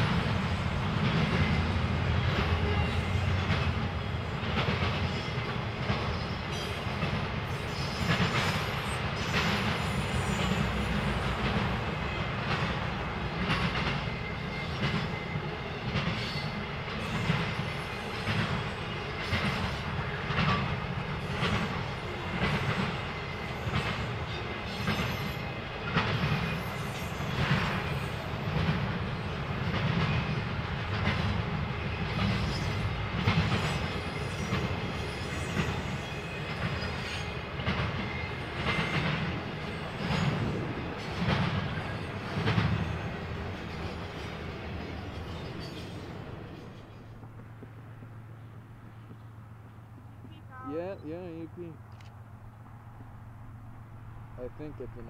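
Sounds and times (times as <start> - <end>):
train wheels clacking over rail joints: 0.0 - 50.3
low train rumble: 0.0 - 55.0.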